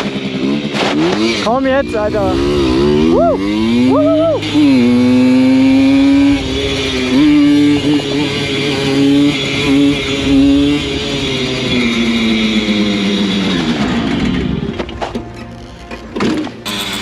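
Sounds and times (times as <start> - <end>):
moped engine revving: 0.0 - 17.0.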